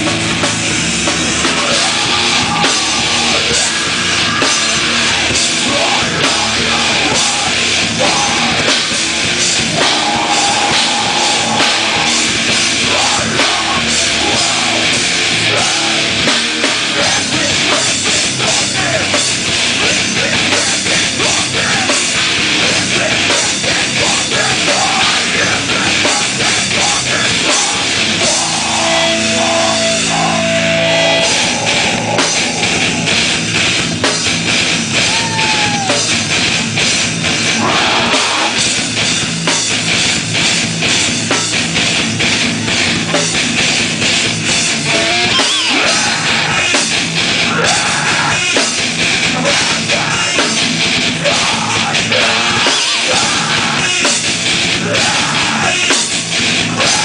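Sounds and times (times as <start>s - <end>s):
heavy metal band playing live: 0.0s - 57.0s.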